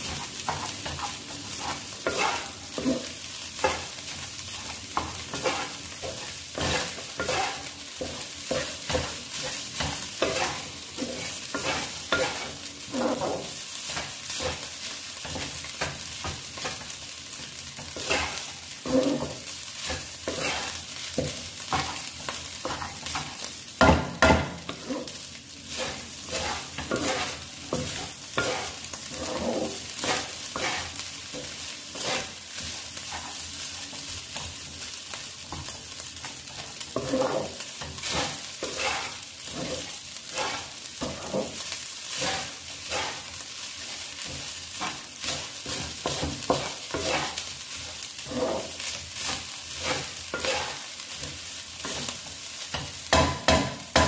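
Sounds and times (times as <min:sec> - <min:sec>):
frying sizzle: 0:00.0 - 0:54.0
spatula scraping wok: 0:00.0 - 0:54.0.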